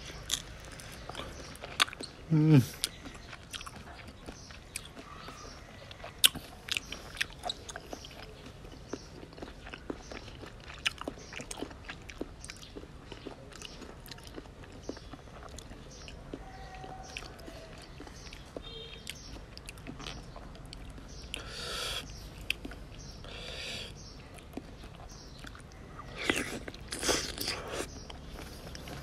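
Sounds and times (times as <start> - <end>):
person chewing: 0.0 - 29.0.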